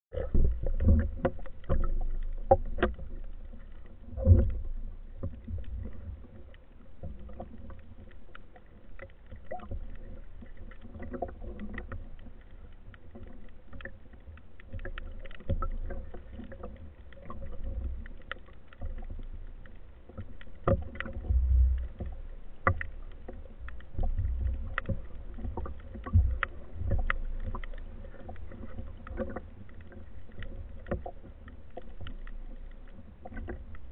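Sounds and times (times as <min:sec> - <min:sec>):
underwater rumble: 0:00.1 - 0:33.9.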